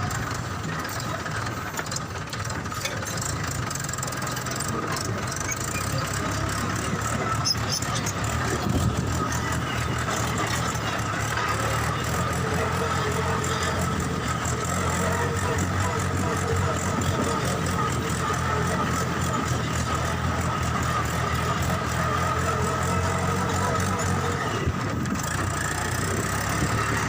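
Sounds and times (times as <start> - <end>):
toy tractor motor droning: 0.0 - 27.0.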